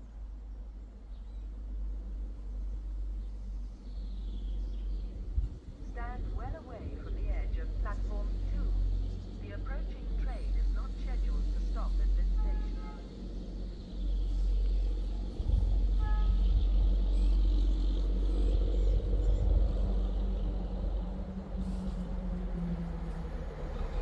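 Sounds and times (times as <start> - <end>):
train rumbling: 1.3 - 24.0.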